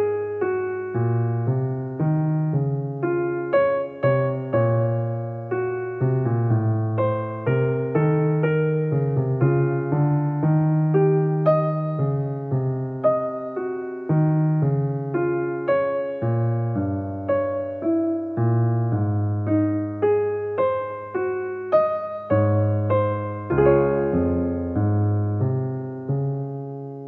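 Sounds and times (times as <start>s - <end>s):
piano melody: 0.0s - 27.0s.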